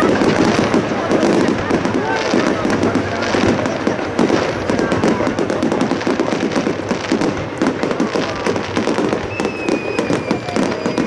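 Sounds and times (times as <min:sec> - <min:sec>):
firework whistle: 0:00.0 - 0:11.0
fireworks crackling and popping: 0:00.0 - 0:11.0.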